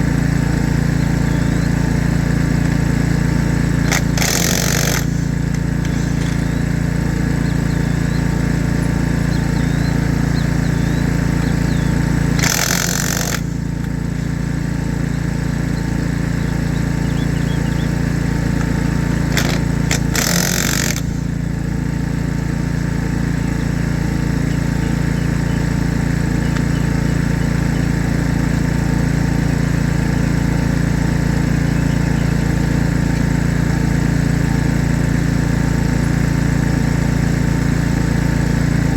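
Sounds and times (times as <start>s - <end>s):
engine idling: 0.0s - 38.9s
short noisy bursts: 0.0s - 38.9s.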